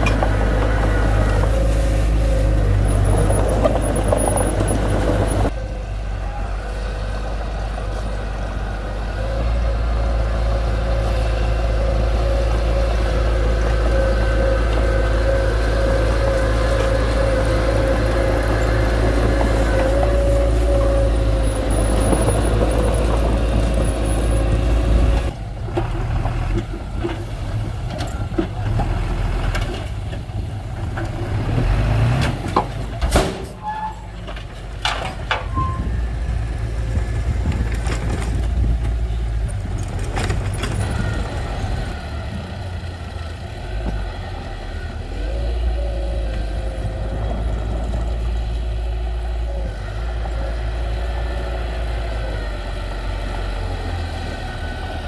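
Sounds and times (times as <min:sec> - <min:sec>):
diesel engine rumbling under load: 0:00.0 - 0:55.0.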